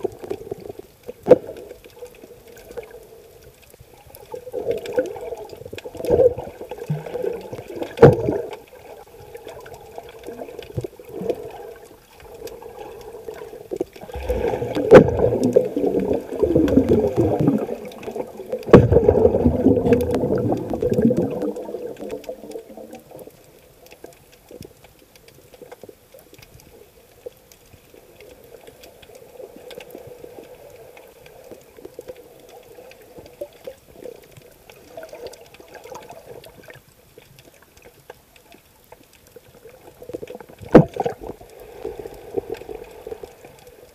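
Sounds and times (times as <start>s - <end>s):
faint clicks: 0.0s - 43.9s
muffled underwater rushing water: 0.0s - 43.9s.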